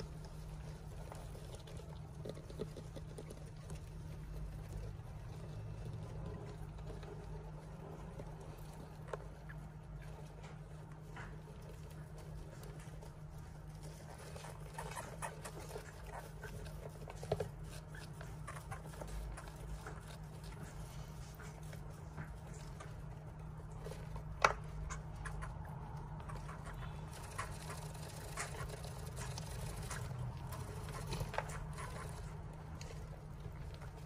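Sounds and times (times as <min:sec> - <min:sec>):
hamsters rustling in bedding: 0:00.0 - 0:34.0
steady low hum: 0:00.0 - 0:34.0.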